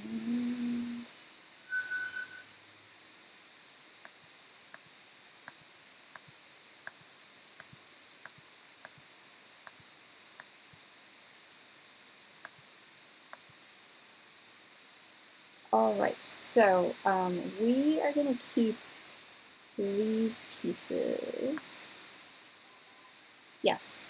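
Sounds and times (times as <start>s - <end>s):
low steady hiss: 0.0s - 24.0s.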